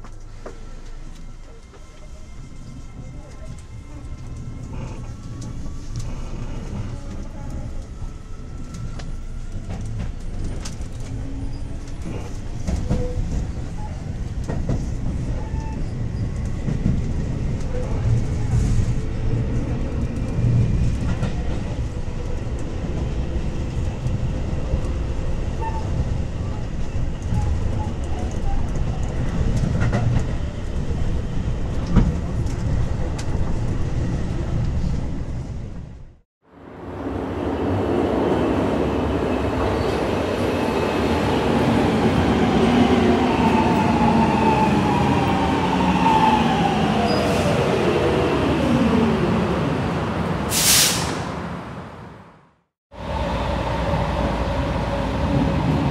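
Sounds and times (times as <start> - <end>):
metro train rumbling on rails: 0.0 - 55.9.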